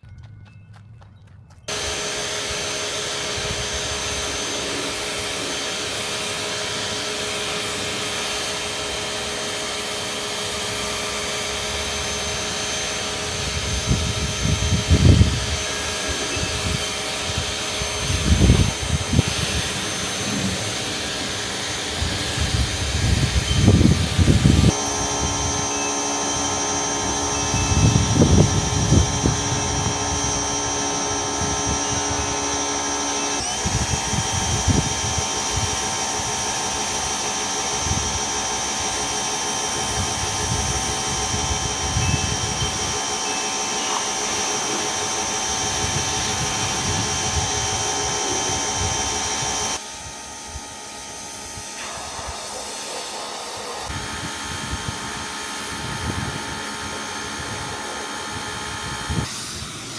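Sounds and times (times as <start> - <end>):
car wash motors and blowers whining: 1.7 - 59.9.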